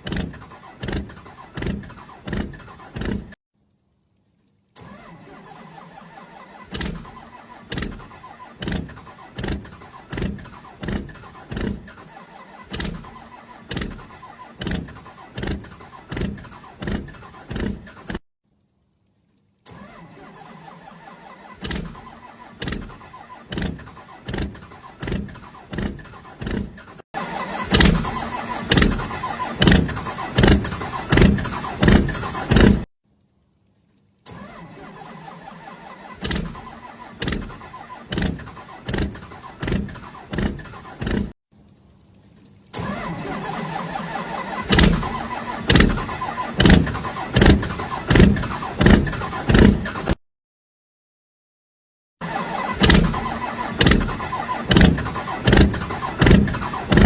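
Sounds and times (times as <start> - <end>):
motorbike engine surging: 0.0 - 3.4, 4.9 - 18.2, 19.8 - 32.9, 34.4 - 41.4, 42.8 - 50.2, 52.2 - 57.0.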